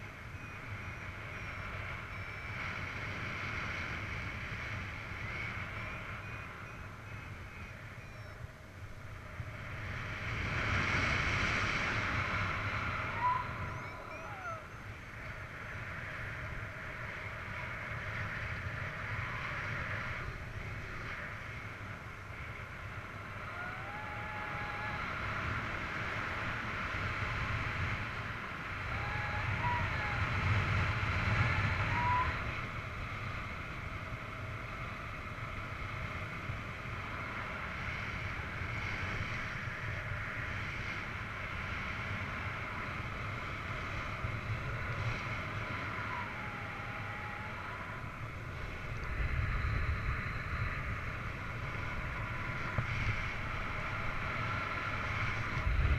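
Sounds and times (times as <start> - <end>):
faint gliding whistling tones: 0.0 - 55.9
wind noise on microphone: 0.0 - 55.9.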